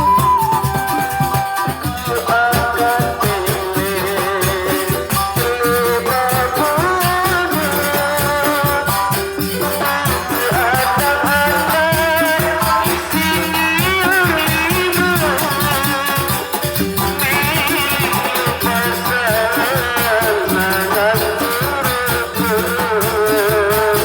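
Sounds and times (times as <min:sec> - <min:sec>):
drums: 0:00.0 - 0:24.0
person singing ornamented melody: 0:00.0 - 0:24.0
rattling percussion: 0:00.0 - 0:24.0.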